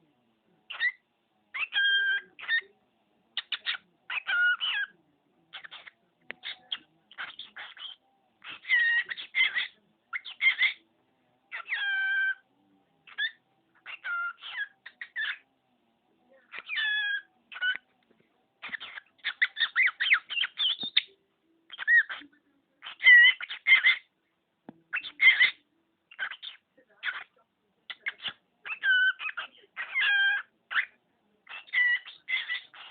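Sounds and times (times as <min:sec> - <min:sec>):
cockatiel chattering: 0:00.7 - 0:02.7, 0:03.4 - 0:04.9, 0:05.5 - 0:10.8, 0:11.5 - 0:12.4, 0:13.0 - 0:15.4, 0:16.5 - 0:17.8, 0:18.6 - 0:21.1, 0:21.7 - 0:24.1, 0:24.9 - 0:32.9.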